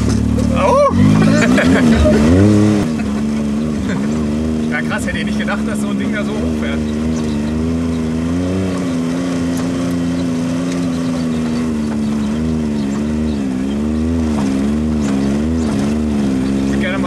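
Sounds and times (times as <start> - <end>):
turbocharged engine revving: 0.0 - 17.0.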